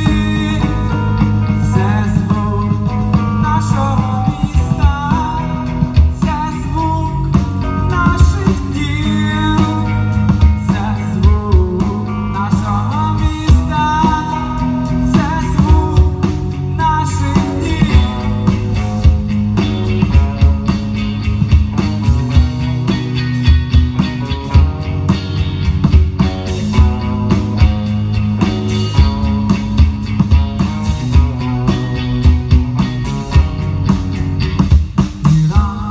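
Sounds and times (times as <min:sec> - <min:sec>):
drum kit: 0:00.0 - 0:35.9
electric guitars: 0:00.0 - 0:35.9
low bass line: 0:00.0 - 0:35.9.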